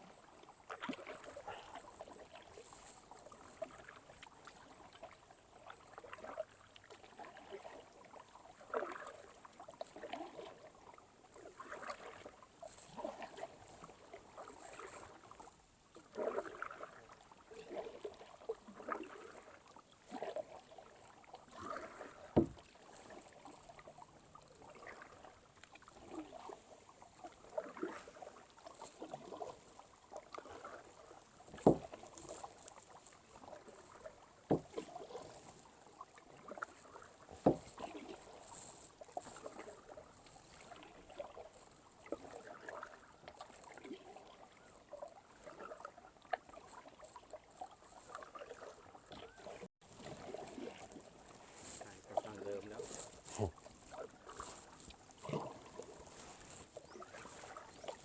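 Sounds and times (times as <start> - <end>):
paddle strokes splashing in water: 0.0 - 58.0.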